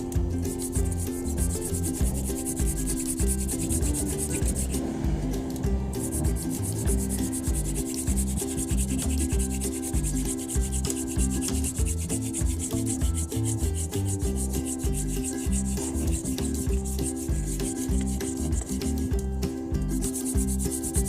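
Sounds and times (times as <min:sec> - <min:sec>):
wooden spindle grinding into board: 0:00.0 - 0:19.2, 0:19.9 - 0:21.0.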